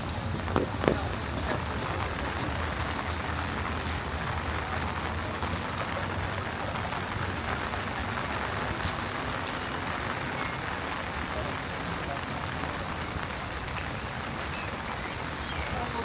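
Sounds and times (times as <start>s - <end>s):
rain pattering on hard surfaces: 0.0s - 16.0s.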